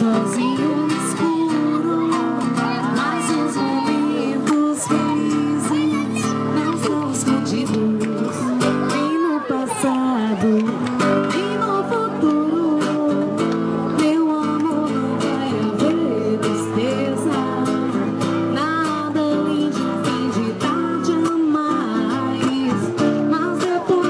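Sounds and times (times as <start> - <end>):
acoustic guitar strumming: 0.0 - 24.0
woman singing into microphone: 0.0 - 24.0.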